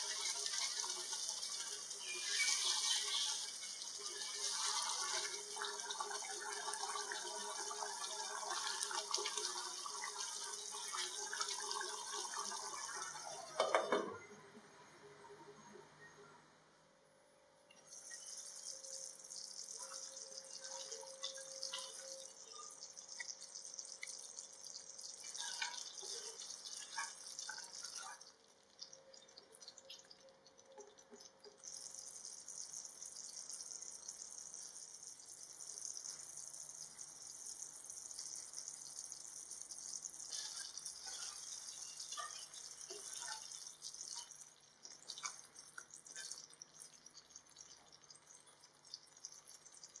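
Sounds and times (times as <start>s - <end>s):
curry sizzling in a pan: 0.0s - 14.0s, 17.8s - 30.2s, 30.8s - 50.0s.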